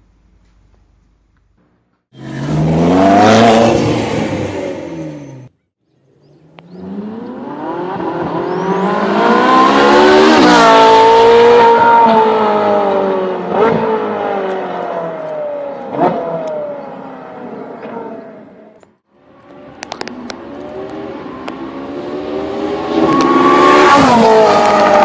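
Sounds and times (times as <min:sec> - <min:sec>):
sports car engine accelerating: 0:02.2 - 0:05.5, 0:06.1 - 0:25.0.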